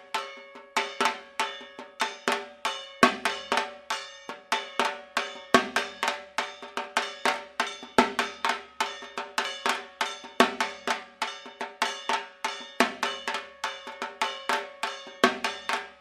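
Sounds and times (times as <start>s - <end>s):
drums beaten with sticks: 0.0s - 16.0s.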